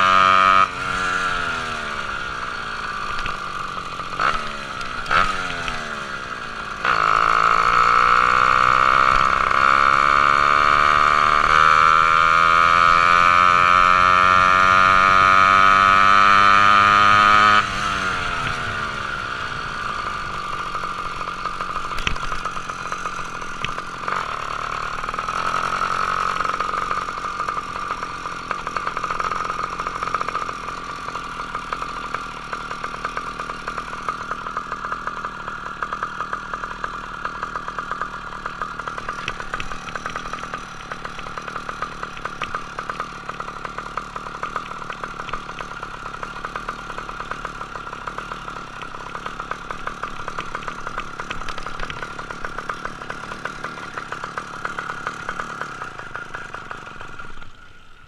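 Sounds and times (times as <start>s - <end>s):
two-stroke bicycle engine revving: 0.0s - 58.0s.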